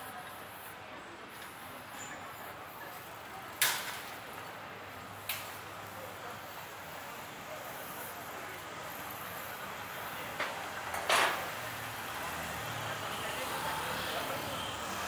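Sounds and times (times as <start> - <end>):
city street ambience: 0.0 - 15.0.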